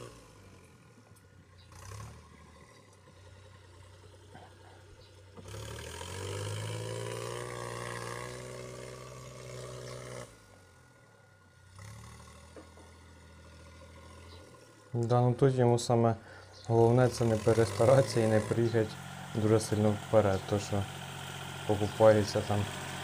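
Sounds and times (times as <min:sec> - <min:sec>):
tractor engine revving under load: 0:00.0 - 0:23.0.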